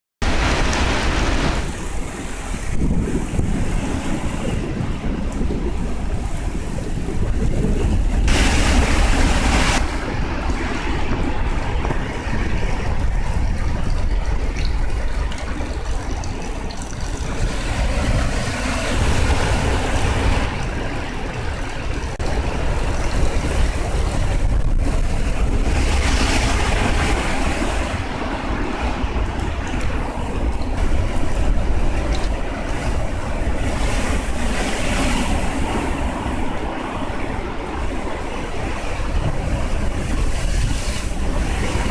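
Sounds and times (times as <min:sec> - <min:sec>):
heavy surf breaking: 0:00.2 - 0:41.9
wind buffeting microphone: 0:00.2 - 0:41.9.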